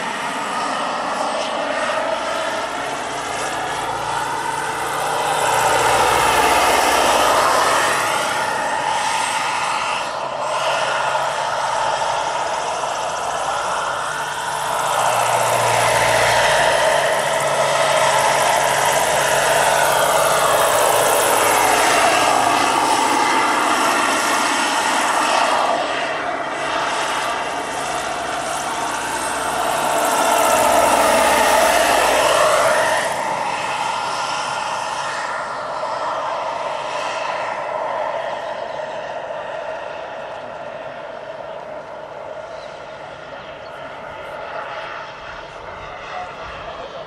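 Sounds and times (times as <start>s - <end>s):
model helicopter turbine whine: 0.0s - 47.0s.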